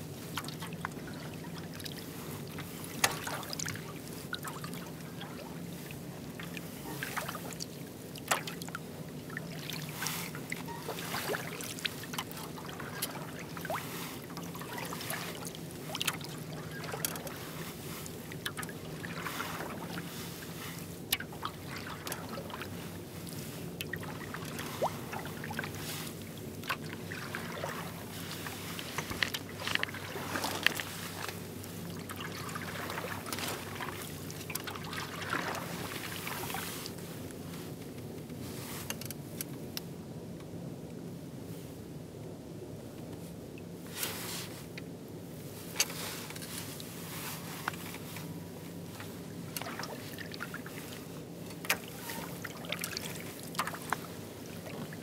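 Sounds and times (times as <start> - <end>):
oars splashing in water: 0.1 - 37.1, 45.6 - 55.0.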